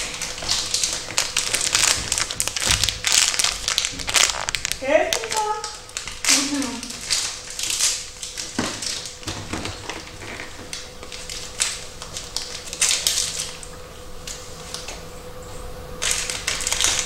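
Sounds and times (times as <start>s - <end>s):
plastic packet crinkling: 0.0s - 15.0s, 16.0s - 17.0s.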